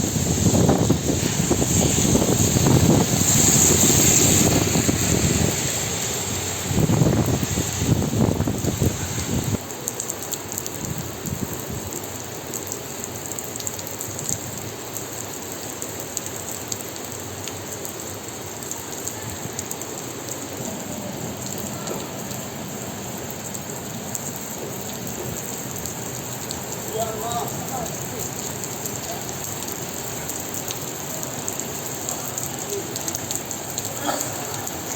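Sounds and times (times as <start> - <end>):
raindrops ticking on surfaces: 0.0 - 34.9
steady rain falling: 0.0 - 34.9.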